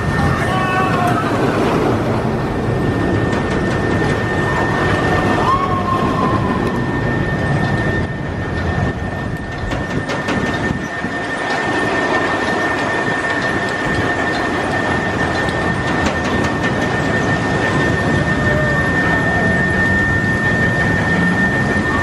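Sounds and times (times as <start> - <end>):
roller coaster wheels rumbling: 0.0 - 22.0.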